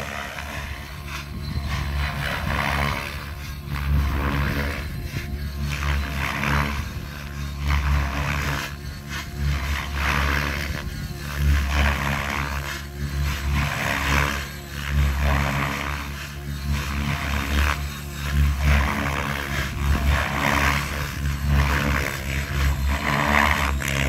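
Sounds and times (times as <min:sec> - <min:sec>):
rc helicopter rotor hum: 0:00.0 - 0:24.0
rushing blade noise: 0:00.0 - 0:24.0.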